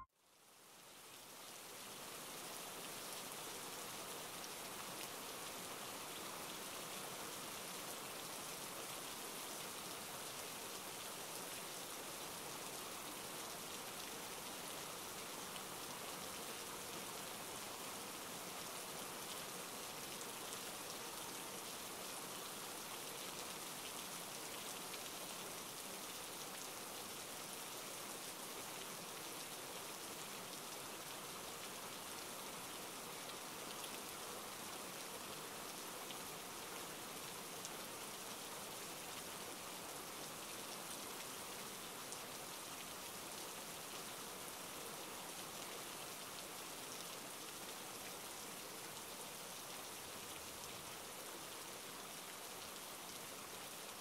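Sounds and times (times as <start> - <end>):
steady rain falling: 0.2 - 54.0.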